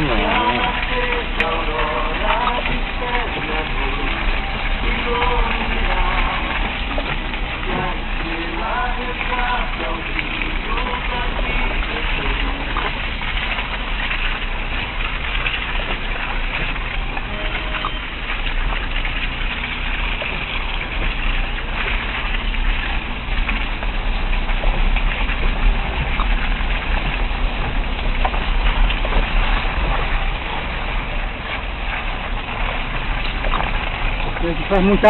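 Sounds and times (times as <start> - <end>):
road and wind noise: 0.0 - 35.0
vehicle engine running: 0.0 - 35.0.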